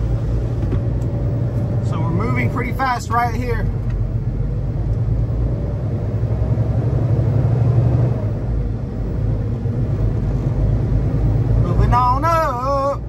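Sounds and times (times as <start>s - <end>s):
diesel truck engine rumble: 0.0s - 13.0s.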